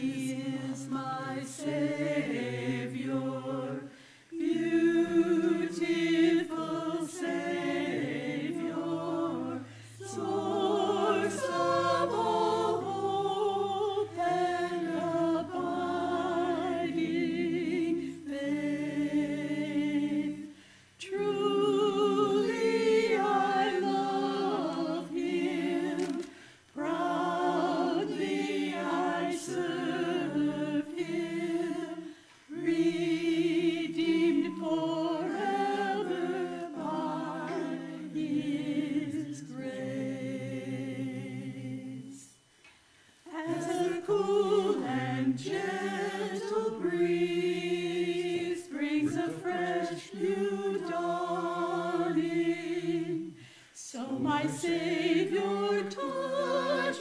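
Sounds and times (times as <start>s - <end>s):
choir singing a hymn: 0.0s - 42.5s, 43.2s - 57.0s.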